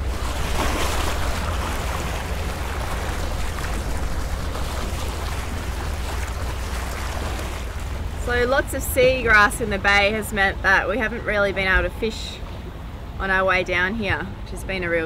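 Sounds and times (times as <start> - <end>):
water rushing past hull: 0.0 - 15.0.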